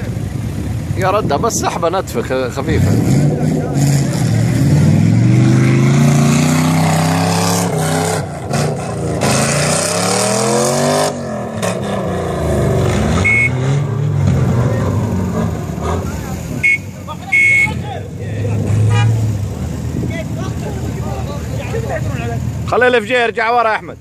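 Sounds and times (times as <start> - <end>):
off-road engines revving: 0.0 - 24.0.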